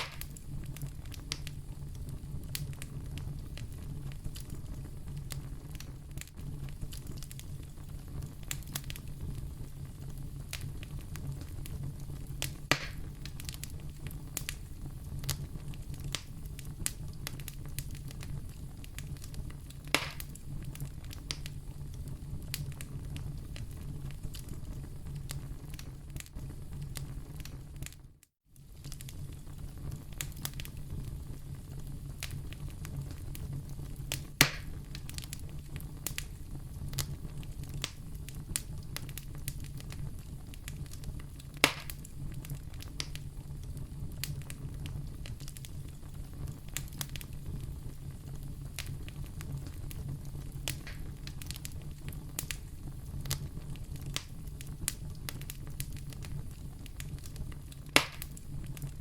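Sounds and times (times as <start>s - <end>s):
fire crackling with snaps: 0.0s - 59.0s
loud fire pops: 0.0s - 59.0s
low rumble of fire: 0.0s - 59.0s.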